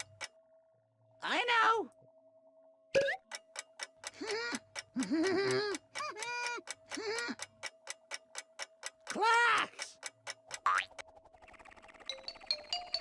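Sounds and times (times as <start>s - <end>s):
cartoon clock ticking: 0.0s - 0.4s, 3.0s - 13.0s.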